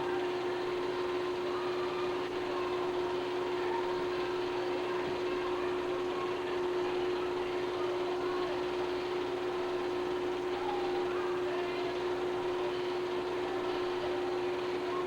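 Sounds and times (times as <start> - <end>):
machine hum and whir: 0.0 - 15.0.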